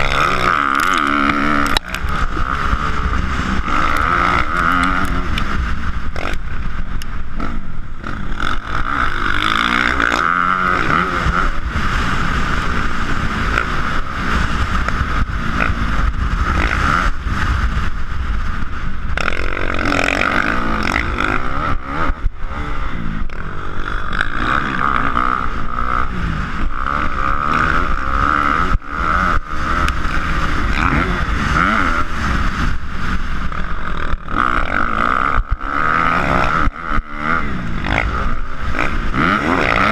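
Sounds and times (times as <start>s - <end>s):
dirt bike engine revving: 0.0s - 39.9s
heavy low rumble: 0.0s - 39.9s.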